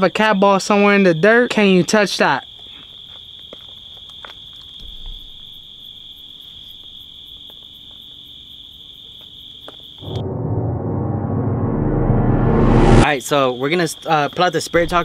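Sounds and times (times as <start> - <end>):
crickets chirping: 0.0 - 10.2, 13.0 - 15.0.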